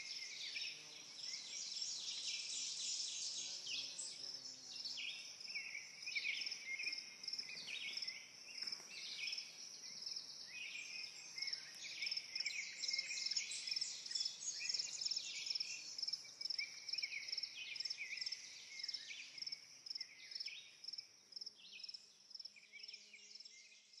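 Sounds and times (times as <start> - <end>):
birds singing: 0.0 - 20.8.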